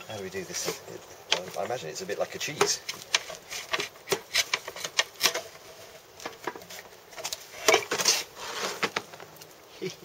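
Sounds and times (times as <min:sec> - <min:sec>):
wood rubbing: 0:00.1 - 0:09.4.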